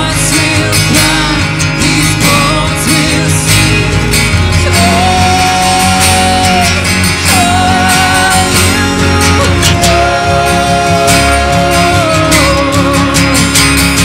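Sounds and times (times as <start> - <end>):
acoustic guitar: 0.0 - 14.0
electric bass: 0.0 - 14.0
person singing: 0.0 - 14.0
worship band playing slow song: 0.0 - 14.0.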